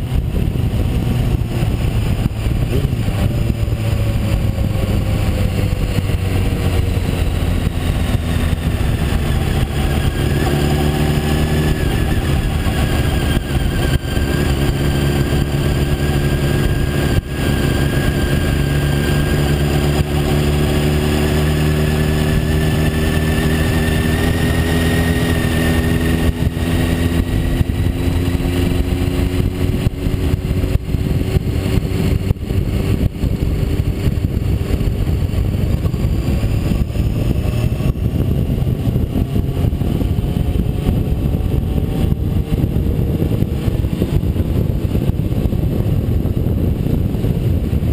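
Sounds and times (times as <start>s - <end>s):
motorcycle engine running: 0.0s - 47.9s
wind and road noise: 0.0s - 47.9s.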